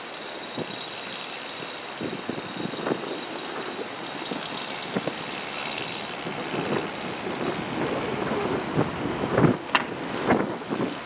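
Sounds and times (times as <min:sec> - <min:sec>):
wind noise: 0:00.4 - 0:11.0.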